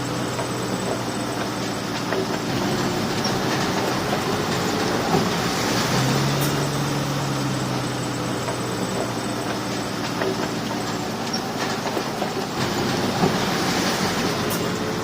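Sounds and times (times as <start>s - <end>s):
bulldozer diesel engine running: 0.0s - 15.0s
steel tracks clanking: 0.0s - 15.0s.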